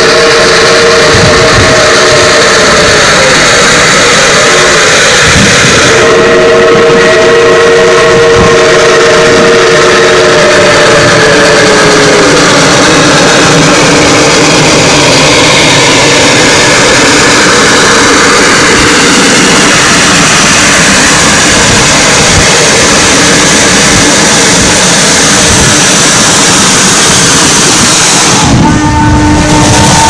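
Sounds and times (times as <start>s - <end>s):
steam locomotive rushing: 0.0s - 30.0s.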